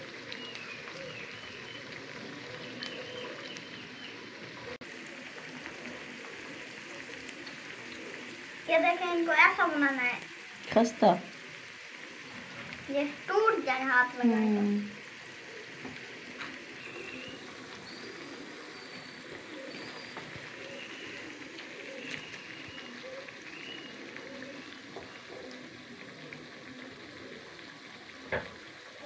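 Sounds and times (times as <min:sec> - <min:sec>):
potato slices sizzling in oil: 0:00.0 - 0:29.0.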